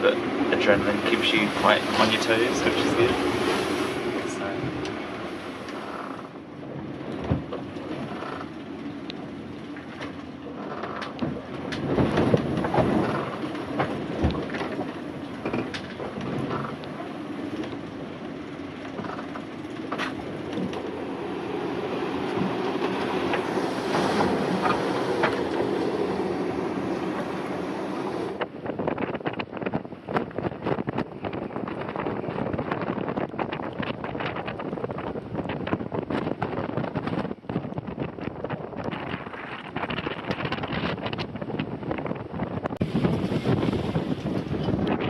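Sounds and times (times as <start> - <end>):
sea noise: 0.0 - 45.0
wind: 0.0 - 45.0
wind buffeting microphone: 0.0 - 45.0.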